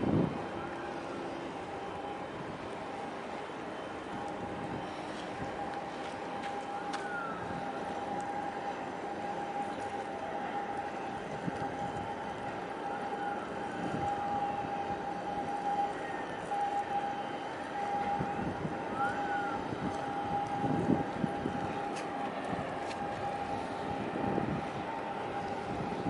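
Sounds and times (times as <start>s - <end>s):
wind buffeting microphone: 0.0s - 3.3s, 4.0s - 10.2s, 10.8s - 17.0s, 17.8s - 26.0s
high machine whine: 0.0s - 26.0s
ship machinery humming: 0.0s - 26.0s
wind and water noise: 0.0s - 26.0s.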